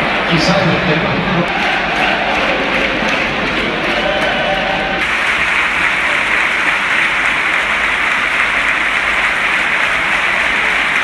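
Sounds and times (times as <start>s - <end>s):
stadium crowd applauding and cheering: 0.0s - 11.0s.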